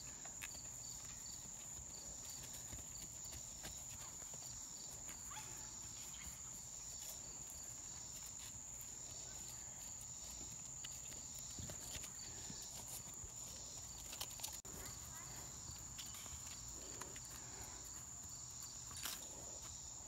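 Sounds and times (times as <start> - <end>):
horse hooves clopping: 0.0 - 19.9.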